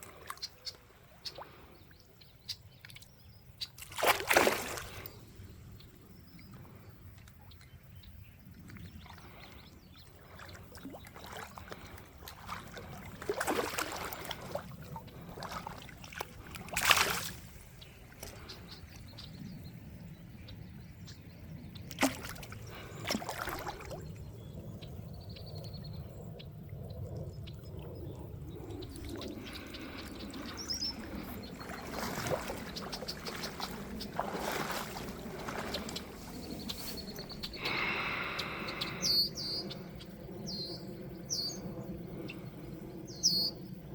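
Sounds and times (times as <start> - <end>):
water sloshing in shallow river: 0.0 - 40.1.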